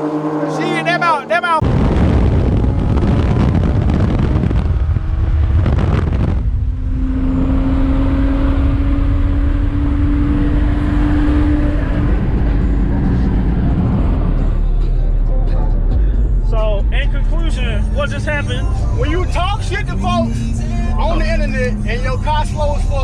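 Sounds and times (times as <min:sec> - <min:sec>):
car accelerating hard: 0:00.0 - 0:15.9, 0:17.0 - 0:23.0
wind and road rush: 0:00.0 - 0:23.0.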